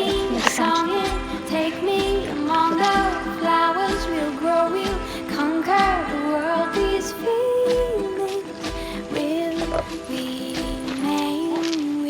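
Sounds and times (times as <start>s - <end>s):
gliding melody over held notes: 0.0s - 12.0s.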